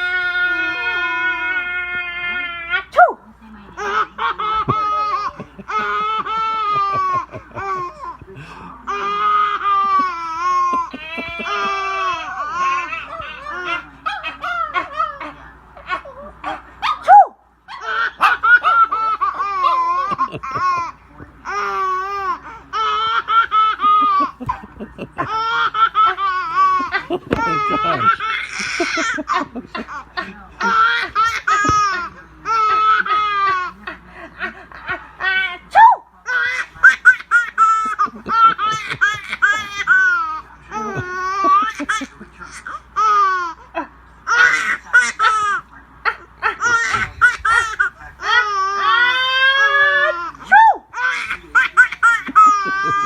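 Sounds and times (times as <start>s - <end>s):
baby laughing: 3.8s - 8.2s, 8.9s - 16.6s, 17.7s - 53.0s.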